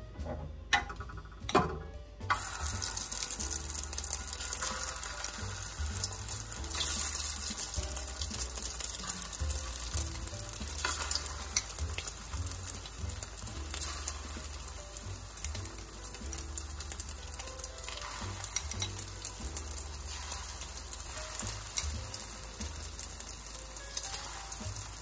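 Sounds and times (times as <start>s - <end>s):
food sizzling in hot oil: 2.3s - 25.0s.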